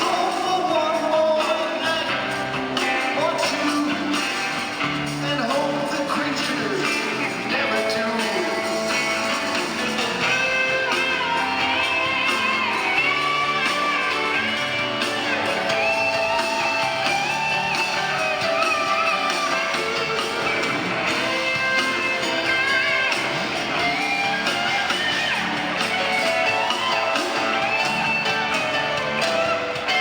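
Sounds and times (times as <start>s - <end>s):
melodic guitar line: 0.0s - 30.0s
rock band playing live: 0.0s - 30.0s.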